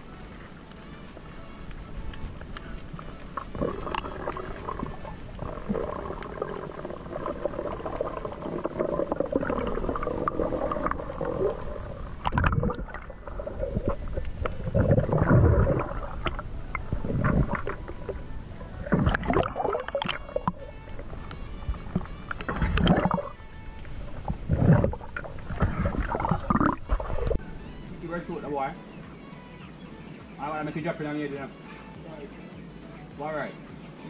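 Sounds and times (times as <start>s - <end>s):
underwater water gurgling: 0.0s - 27.5s
rushing water and bubbles: 0.0s - 27.6s.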